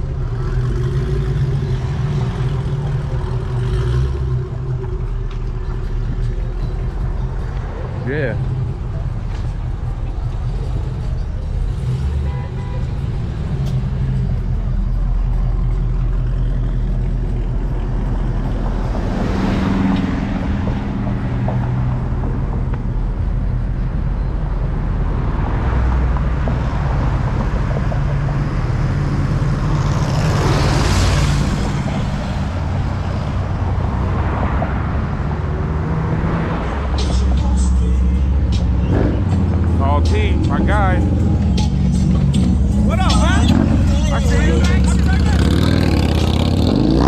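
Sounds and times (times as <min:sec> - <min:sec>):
car engine low rumble: 0:00.0 - 0:47.0
traffic rushing past: 0:00.0 - 0:47.0.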